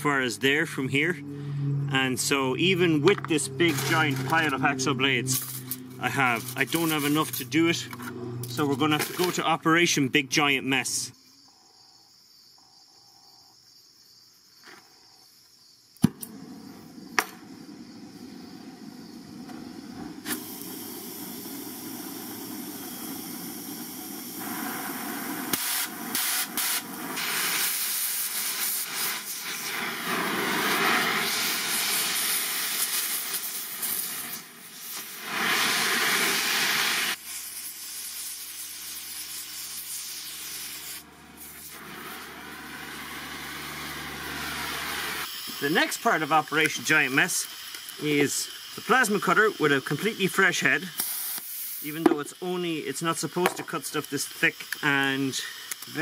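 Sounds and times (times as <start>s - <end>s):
cutting torch hissing: 0.0s - 9.6s, 16.0s - 56.0s.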